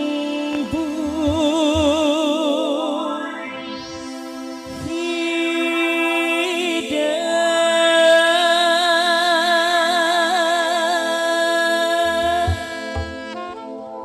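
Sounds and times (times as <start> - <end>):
woman singing a long vibrato note: 0.0 - 13.9.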